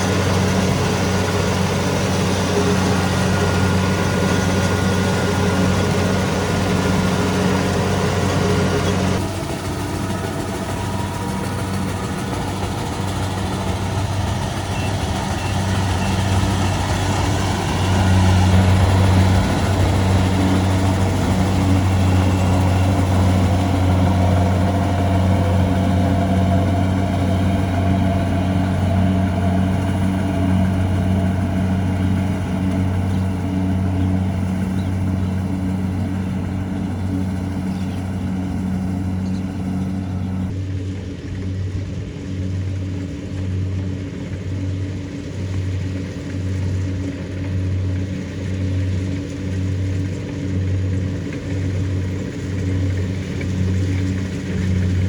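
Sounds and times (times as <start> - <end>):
combine harvester diesel engine running: 0.0 - 55.0.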